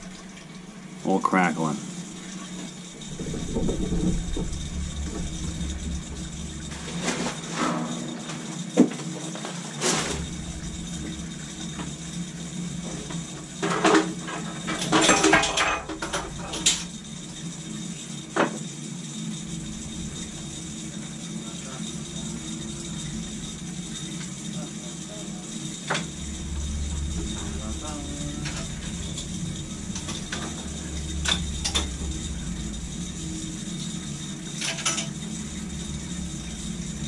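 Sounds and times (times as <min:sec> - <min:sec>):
water and air rushing through pipes: 0:00.0 - 0:37.0.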